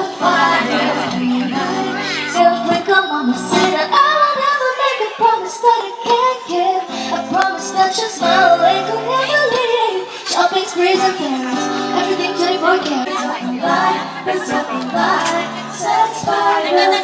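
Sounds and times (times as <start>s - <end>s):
plucked guitar: 0.0s - 17.0s
woman singing: 0.0s - 17.0s.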